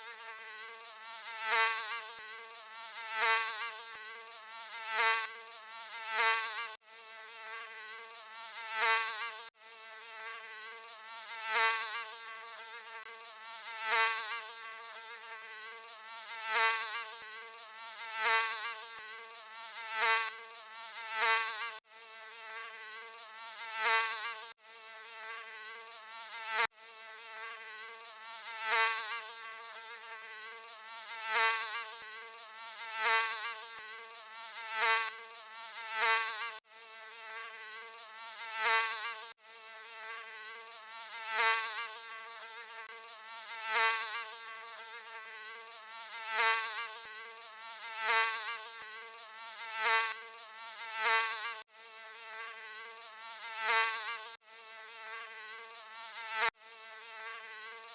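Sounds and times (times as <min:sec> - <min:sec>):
mosquito buzzing: 0:00.0 - 0:57.9.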